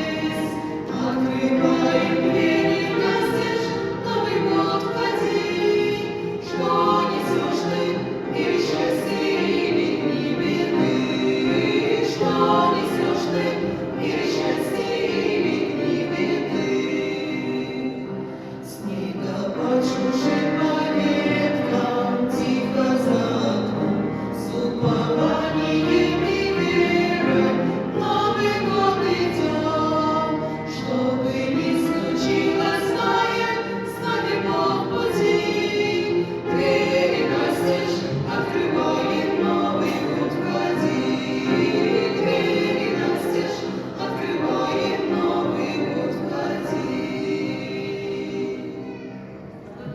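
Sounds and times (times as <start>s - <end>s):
women's vocal ensemble singing: 0.0s - 49.9s.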